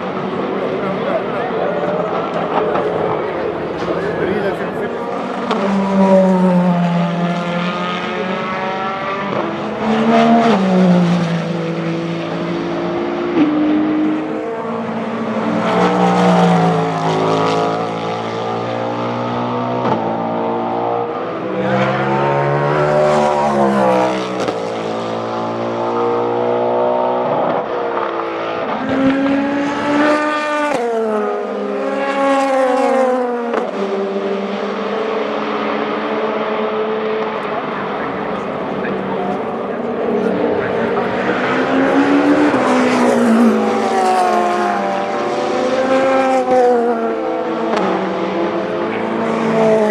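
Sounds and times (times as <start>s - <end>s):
race cars passing at speed: 0.0s - 49.9s.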